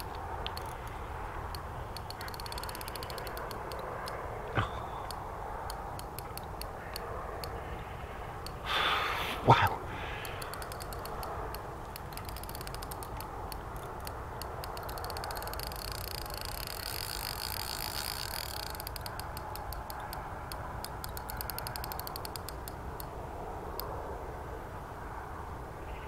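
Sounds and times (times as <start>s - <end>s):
fishing reel drag ticking: 0.0s - 7.6s, 8.4s - 8.8s, 10.0s - 23.9s.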